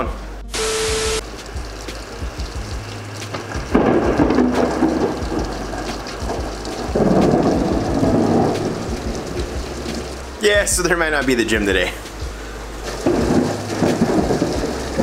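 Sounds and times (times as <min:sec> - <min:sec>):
hard rain: 0:00.6 - 0:15.0
thunder rumbling: 0:01.5 - 0:11.0, 0:12.2 - 0:15.0.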